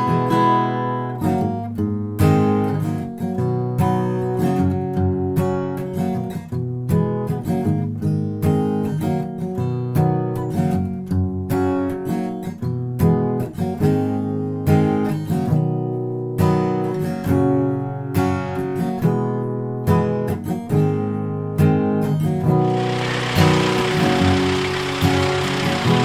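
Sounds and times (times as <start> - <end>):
strummed acoustic guitar chords: 0.0 - 26.0.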